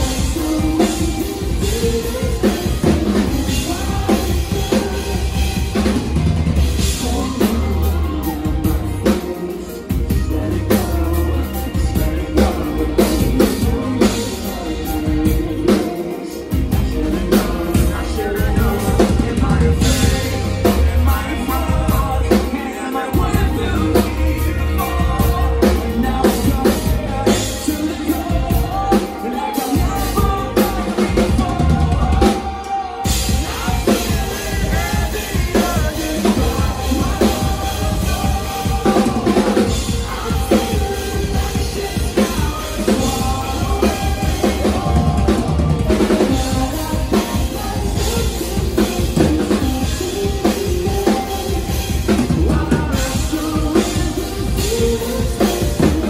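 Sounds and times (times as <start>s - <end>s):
rock band playing live: 0.0s - 56.0s.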